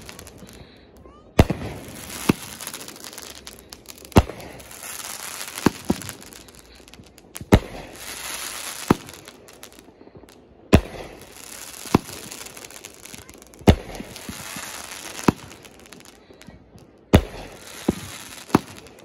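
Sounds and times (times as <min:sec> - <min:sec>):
crackling hiss of stars: 0:00.0 - 0:19.0
firework bangs: 0:00.0 - 0:19.0.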